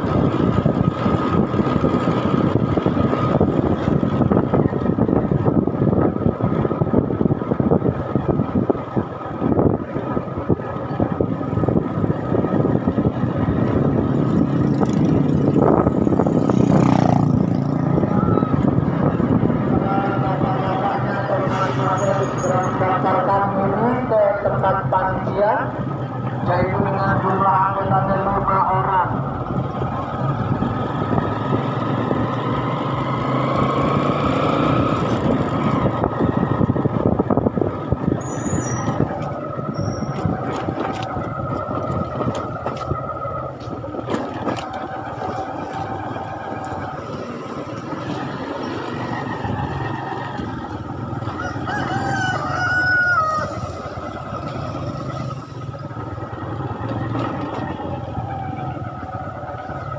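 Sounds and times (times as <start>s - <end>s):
road noise on dirt road: 0.0s - 59.9s
vehicle engine running: 0.0s - 59.9s.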